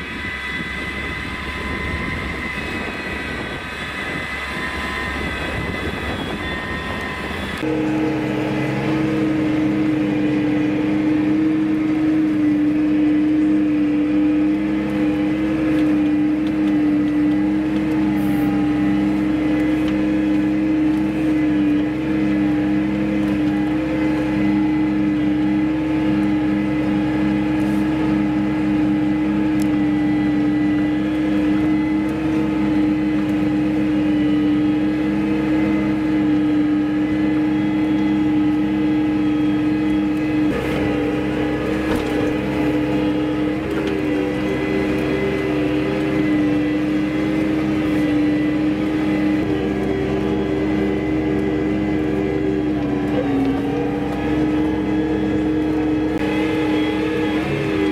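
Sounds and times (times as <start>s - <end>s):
tractor engine droning: 0.0s - 57.9s.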